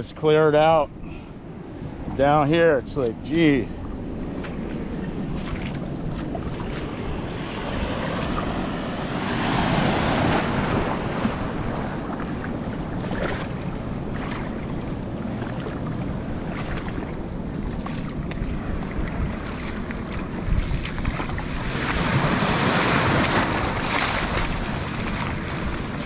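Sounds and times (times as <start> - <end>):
wind buffeting microphone: 0.0 - 26.0
small waves washing over shallows: 0.3 - 26.0.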